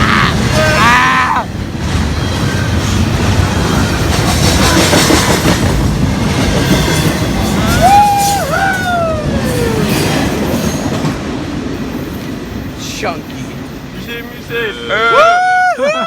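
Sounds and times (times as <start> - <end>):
train rumbling past: 0.0 - 15.7.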